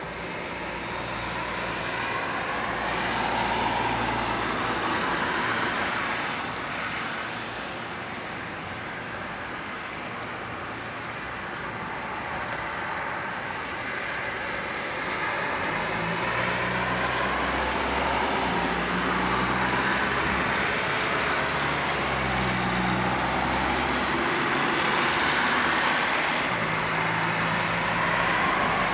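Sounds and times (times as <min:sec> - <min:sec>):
heavy rain: 0:00.0 - 0:28.9.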